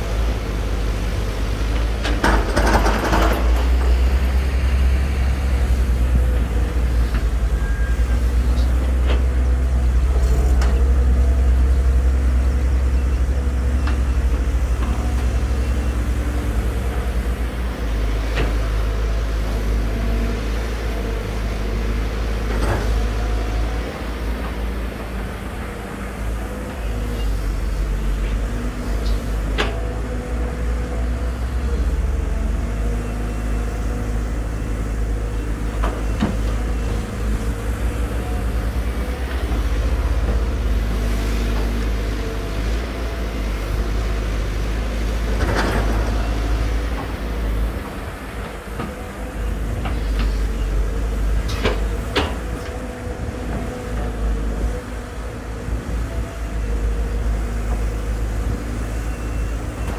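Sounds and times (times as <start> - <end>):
excavator engines rumbling: 0.0 - 59.9.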